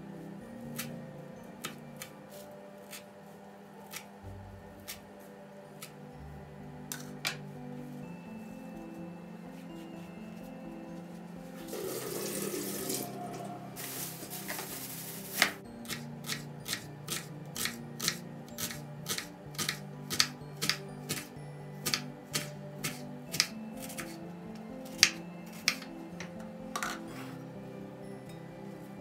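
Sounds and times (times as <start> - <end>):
soft background music: 0.0 - 29.0.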